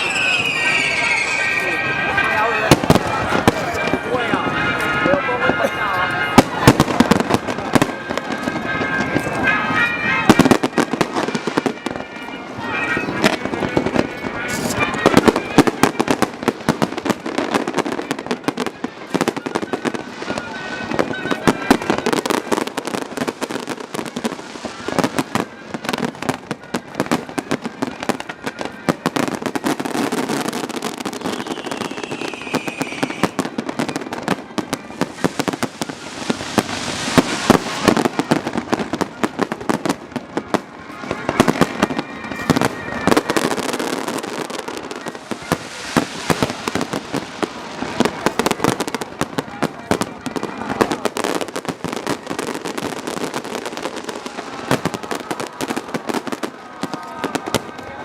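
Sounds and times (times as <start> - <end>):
falling firework whistle: 0.0 - 4.2, 12.8 - 49.0, 49.9 - 58.0
fireworks bangs and crackles: 0.0 - 58.0.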